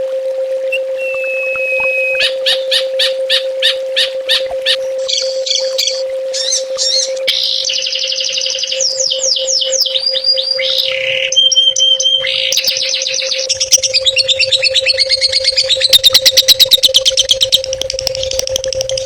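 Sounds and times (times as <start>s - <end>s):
steady low hum: 0.4s - 19.0s
songbird singing: 0.7s - 19.0s.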